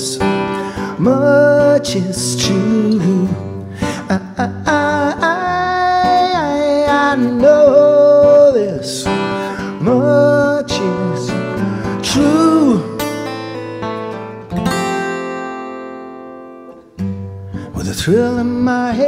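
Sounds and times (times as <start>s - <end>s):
acoustic guitar: 0.0s - 19.0s
wordless sung melody: 0.0s - 19.0s.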